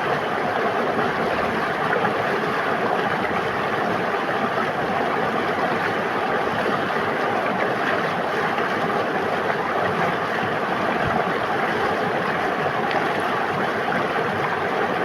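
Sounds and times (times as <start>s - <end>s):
river water flowing and splashing: 0.0s - 15.0s.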